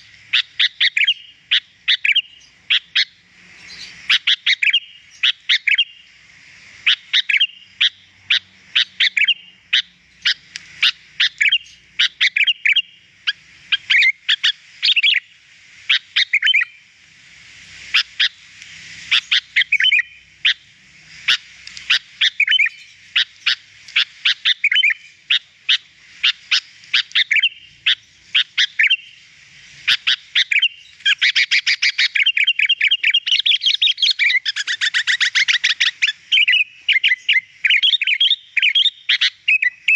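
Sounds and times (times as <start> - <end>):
bird singing chirping whistles: 0.0 - 6.2, 6.8 - 15.3, 15.9 - 16.9, 19.1 - 39.9.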